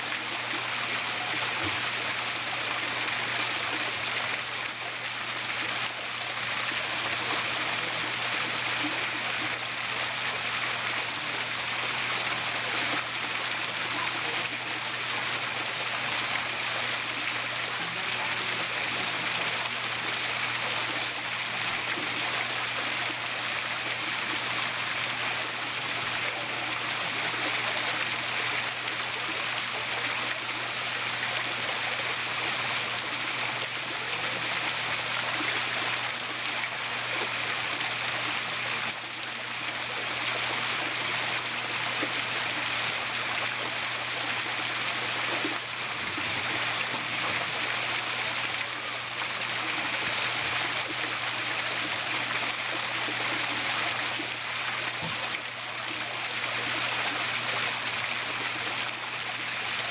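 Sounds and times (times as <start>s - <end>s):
waterfall over rocks: 0.0s - 59.9s.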